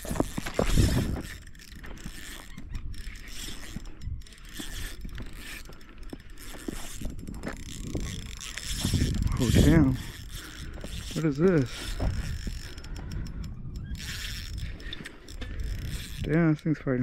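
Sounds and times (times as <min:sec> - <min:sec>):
fishing reel clicking and whirring: 0:00.0 - 0:17.0.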